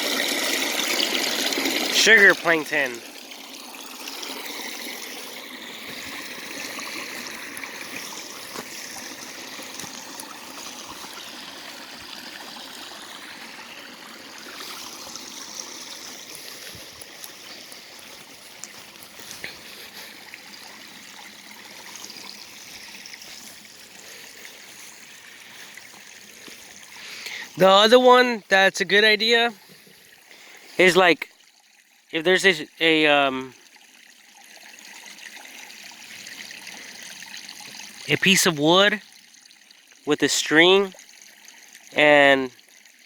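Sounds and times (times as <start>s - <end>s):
creek water trickling: 0.0s - 43.0s.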